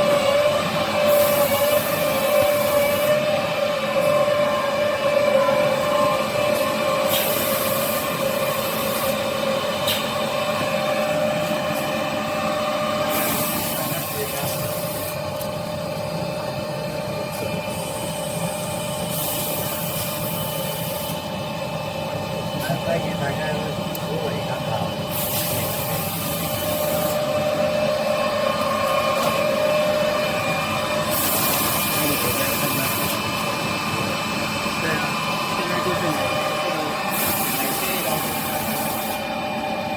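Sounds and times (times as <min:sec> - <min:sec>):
machine mechanical whine: 0:00.0 - 0:39.9.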